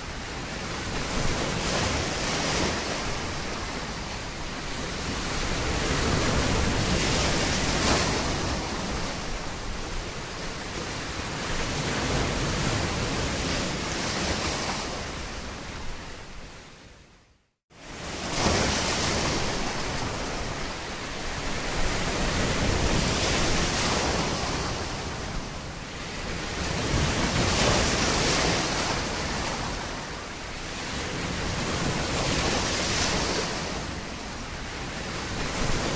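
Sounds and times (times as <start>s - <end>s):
ocean waves: 0.0s - 17.1s, 17.7s - 35.9s.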